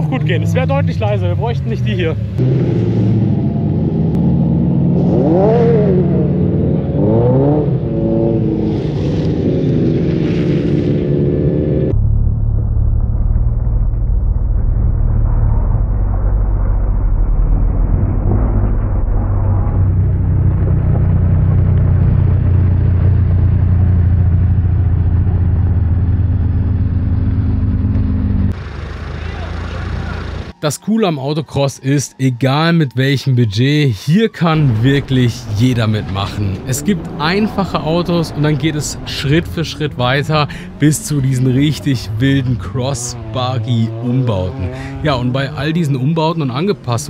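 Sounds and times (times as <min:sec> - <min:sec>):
race car engines: 0:00.0 - 0:12.0, 0:17.3 - 0:47.0.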